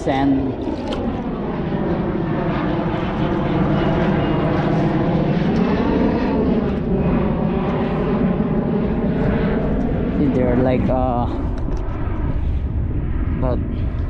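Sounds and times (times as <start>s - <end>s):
airplane engine drone passing: 0.0s - 14.0s.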